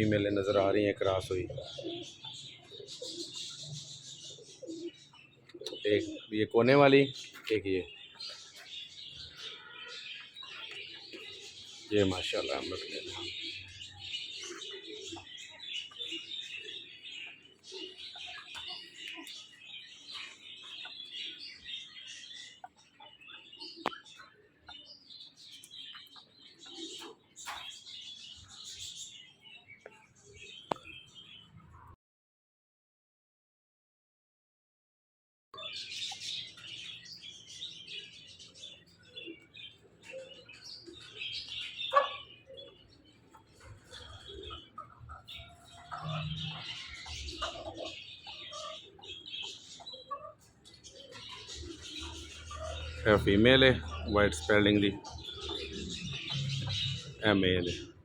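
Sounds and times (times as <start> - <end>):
small birds twittering: 0.0 - 32.0, 35.6 - 58.0.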